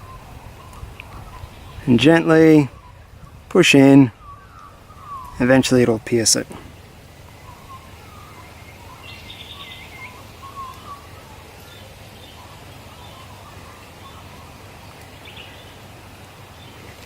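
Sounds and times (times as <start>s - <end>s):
birds chirping: 0.0s - 17.0s
low background noise: 0.0s - 17.0s.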